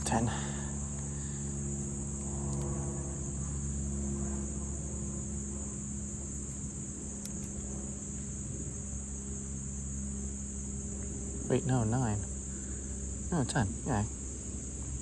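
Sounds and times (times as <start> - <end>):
crickets chirping: 0.0 - 15.0
traffic engine hum: 0.0 - 15.0.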